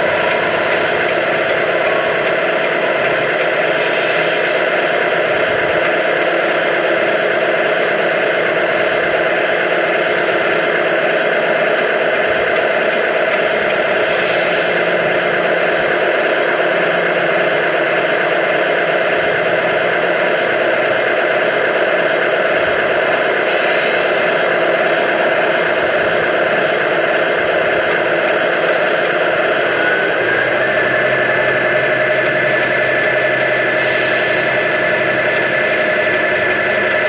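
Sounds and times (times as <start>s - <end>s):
model truck motor humming: 0.0s - 37.0s.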